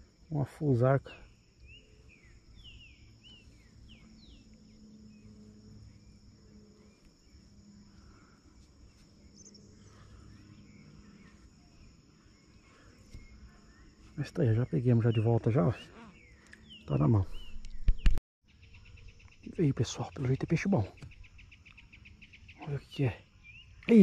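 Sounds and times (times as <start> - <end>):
high insect drone: 0.0 - 17.4, 18.5 - 24.0
bird chirping: 0.0 - 24.0.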